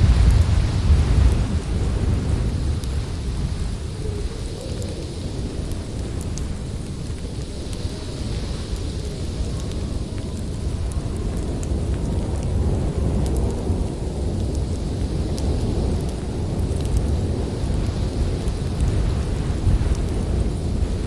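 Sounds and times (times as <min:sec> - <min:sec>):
wind blowing: 0:00.0 - 0:21.0
wood fire crackling: 0:00.0 - 0:21.0.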